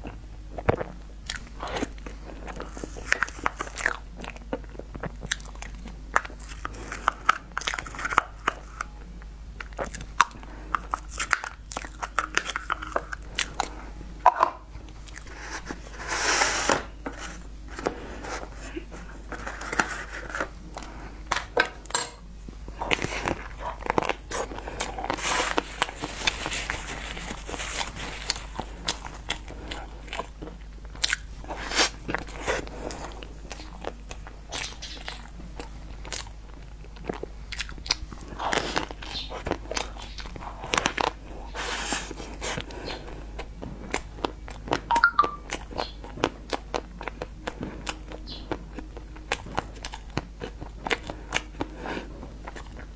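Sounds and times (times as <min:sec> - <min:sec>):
biting and chewing crunches: 0:00.0 - 0:16.0, 0:17.4 - 0:52.9.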